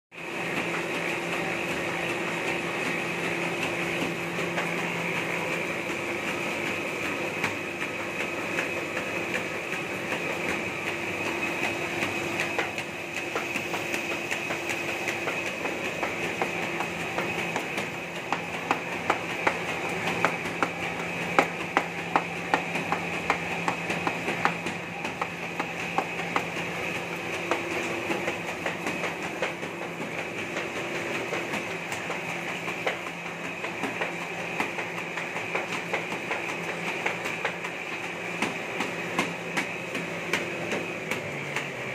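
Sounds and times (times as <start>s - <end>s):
machine motor and rollers whirring: 0.2s - 41.9s.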